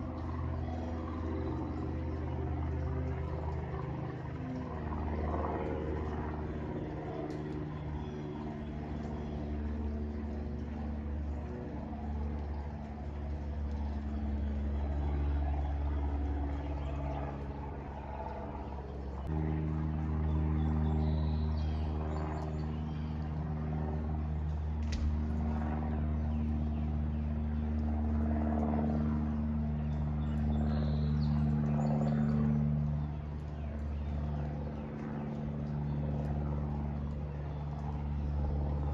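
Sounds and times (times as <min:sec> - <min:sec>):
low engine drone: 0:00.0 - 0:38.9
birds chirping: 0:04.8 - 0:38.9.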